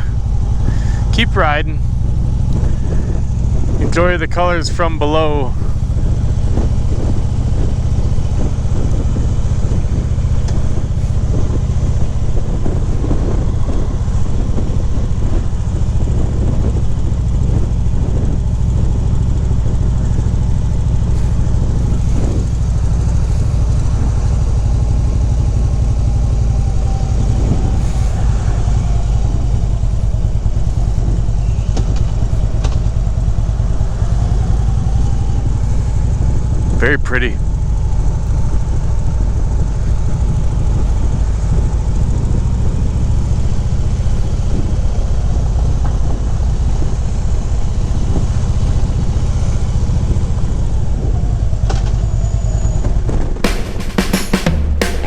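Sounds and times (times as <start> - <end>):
motorcycle engine drone: 0.0 - 55.0
wind and road noise: 0.0 - 55.0.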